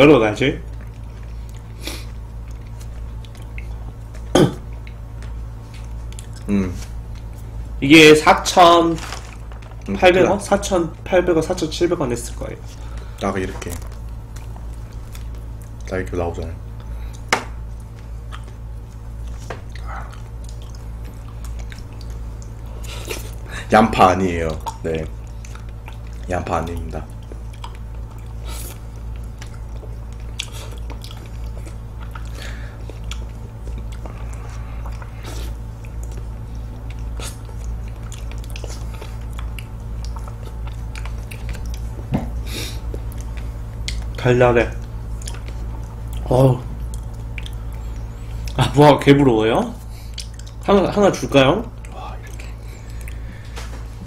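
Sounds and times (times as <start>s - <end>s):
low hum: 0.0s - 54.0s
wet squishing of figs: 0.5s - 54.0s
close chewing of fruit: 0.6s - 11.1s, 12.3s - 54.0s.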